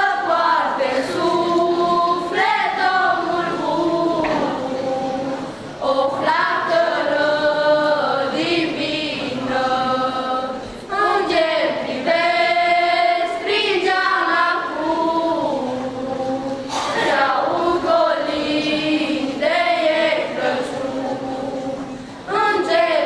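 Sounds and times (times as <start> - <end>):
girls singing a carol: 0.0 - 23.0.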